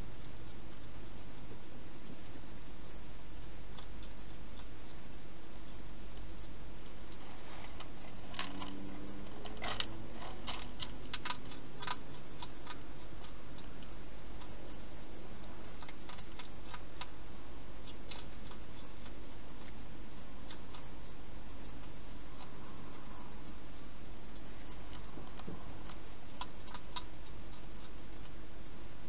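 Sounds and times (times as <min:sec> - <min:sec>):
hedgehog chewing food: 0:00.0 - 0:28.6.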